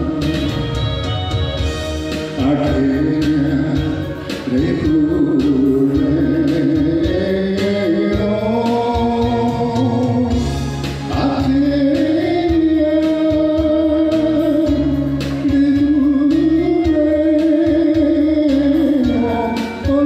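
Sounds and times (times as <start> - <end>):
band playing bass and drums: 0.0 - 20.0.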